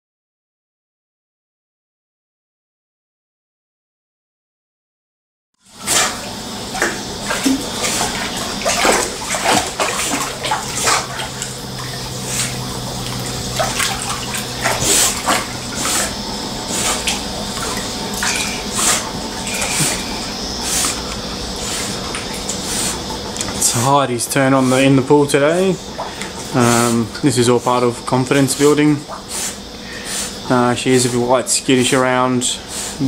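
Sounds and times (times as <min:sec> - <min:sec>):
dog paddling in pool water: 0:05.6 - 0:33.0
steady hum: 0:05.6 - 0:33.0.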